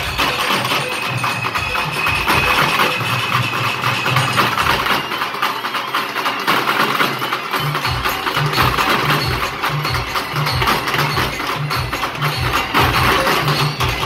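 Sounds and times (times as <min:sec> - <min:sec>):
barrel drums in fast rhythm: 0:00.0 - 0:14.0
clatter of rapid drum strokes: 0:00.0 - 0:14.0.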